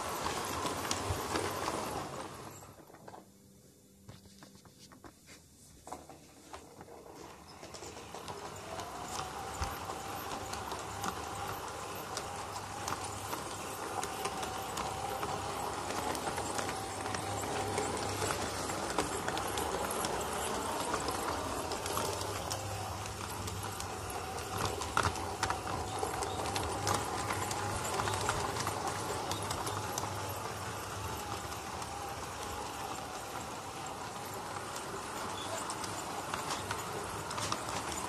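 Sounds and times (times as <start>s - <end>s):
model train motor whine: 0.0s - 2.7s, 7.1s - 38.0s
wheels clicking on rails: 0.0s - 3.3s, 5.8s - 38.0s.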